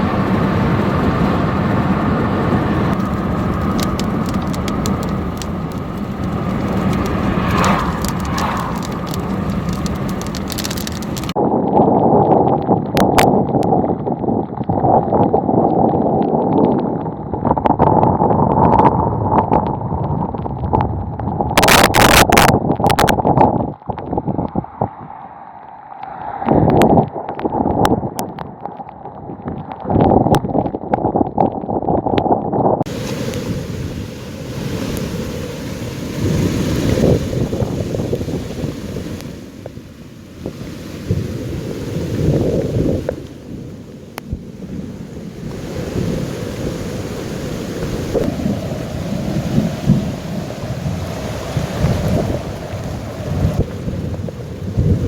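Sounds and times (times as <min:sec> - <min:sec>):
heavy rain: 0:00.0 - 0:31.8, 0:32.8 - 0:55.0
wind buffeting microphone: 0:00.0 - 0:55.0.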